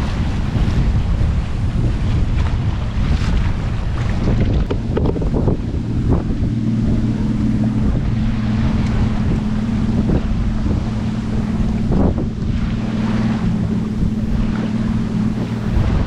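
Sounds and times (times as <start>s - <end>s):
steady low hum: 0.0s - 16.0s
water rushing along a hull: 0.0s - 16.0s
water splashes: 0.0s - 16.0s
wind buffeting microphone: 0.0s - 16.0s.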